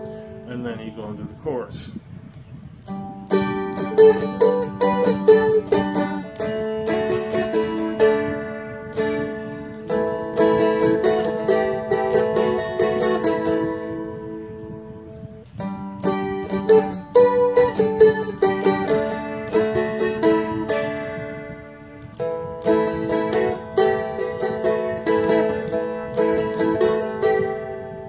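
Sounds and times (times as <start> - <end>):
dulcimer melody with drone strings: 0.0 - 0.6, 2.8 - 28.0.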